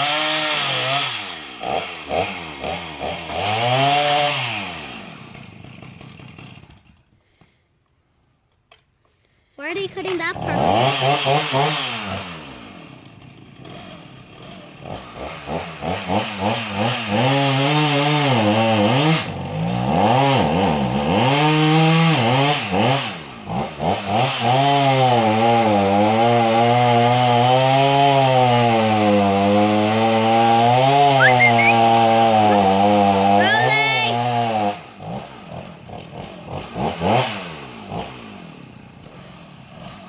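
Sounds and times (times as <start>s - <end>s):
chainsaw revving and cutting wood: 0.0s - 7.6s, 9.3s - 40.0s.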